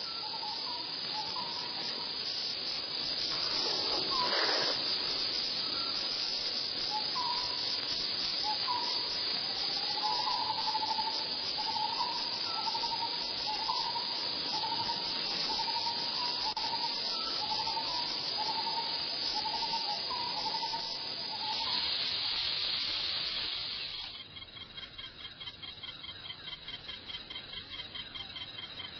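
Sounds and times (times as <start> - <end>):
insects buzzing chorus: 0.0 - 28.9.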